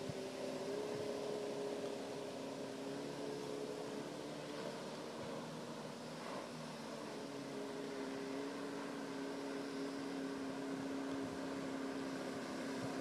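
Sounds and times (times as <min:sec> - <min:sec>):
outboard motor boat droning: 0:00.0 - 0:13.0.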